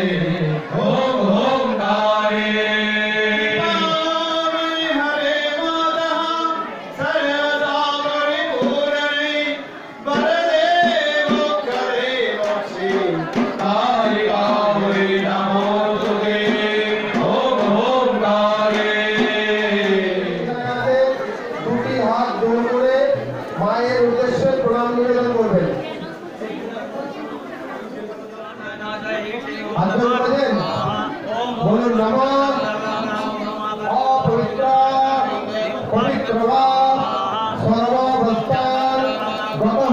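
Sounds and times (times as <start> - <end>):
man chanting into a microphone: 0.0 - 26.0, 28.4 - 39.9.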